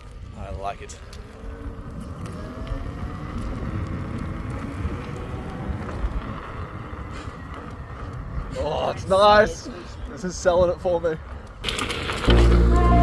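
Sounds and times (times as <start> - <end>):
rolling tyre noise: 0.0 - 13.0
wind rumble on microphone: 0.0 - 13.0.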